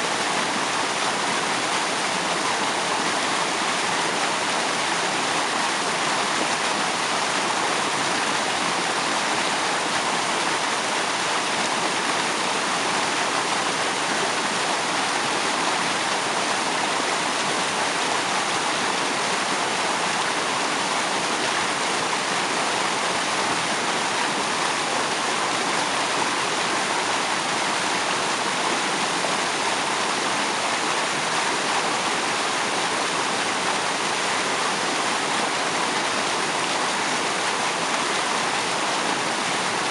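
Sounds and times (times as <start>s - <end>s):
waterfall water splashing: 0.0s - 39.9s.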